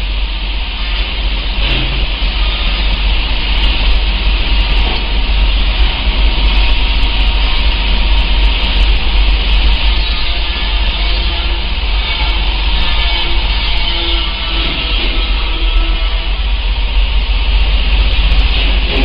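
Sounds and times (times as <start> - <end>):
machine running with hiss: 0.0 - 19.0.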